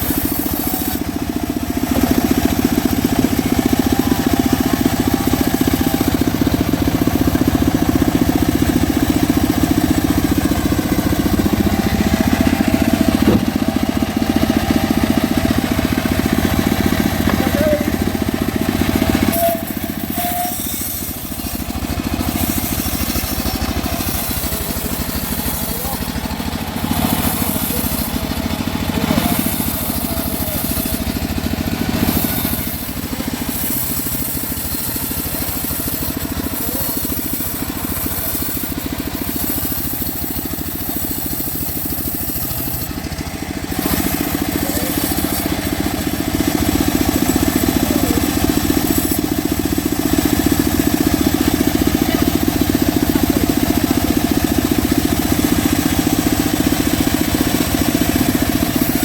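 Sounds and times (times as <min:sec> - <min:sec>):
bandsaw sawmill cutting wood: 0:00.0 - 0:59.0.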